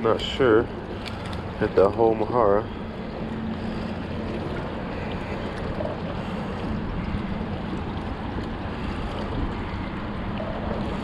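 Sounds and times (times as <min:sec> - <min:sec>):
water noise around boat: 0:00.0 - 0:11.0
wind: 0:00.0 - 0:11.0.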